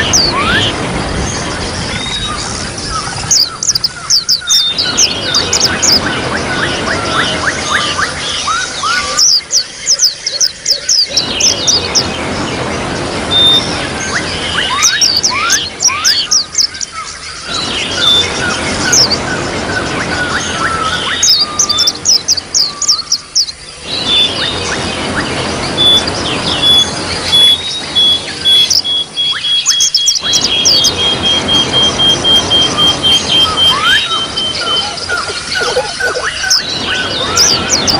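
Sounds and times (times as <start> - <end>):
songbirds chirping: 0.0 - 37.9.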